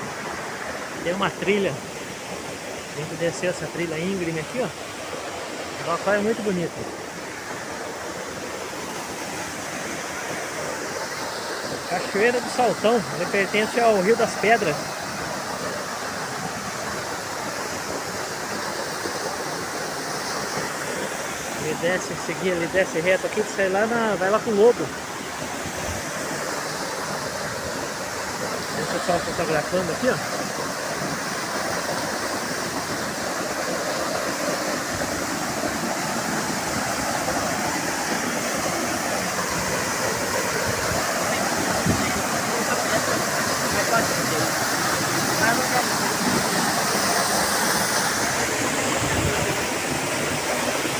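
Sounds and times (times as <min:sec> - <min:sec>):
waterfall crashing onto rock: 0:09.6 - 0:50.9.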